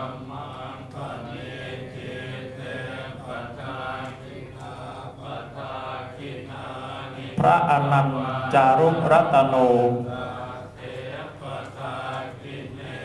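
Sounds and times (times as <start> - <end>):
monks chanting together: 0.0 - 13.0.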